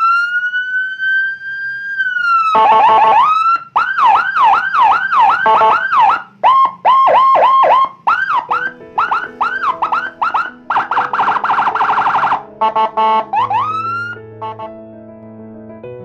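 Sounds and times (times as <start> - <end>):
electronic police siren: 0.0 - 14.7.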